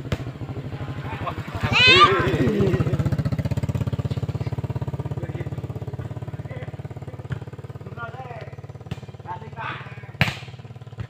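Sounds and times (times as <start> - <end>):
small engine puttering: 0.1 - 11.0.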